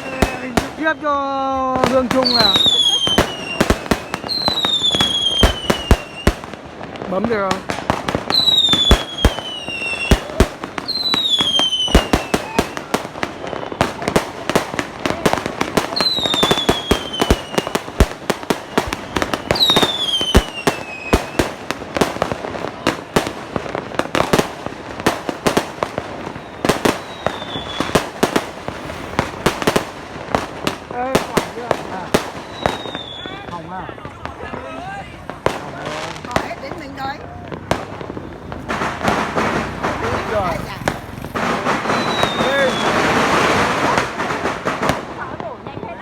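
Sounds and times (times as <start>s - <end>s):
firecrackers banging: 0.0s - 46.0s
whistling fireworks: 0.0s - 46.0s.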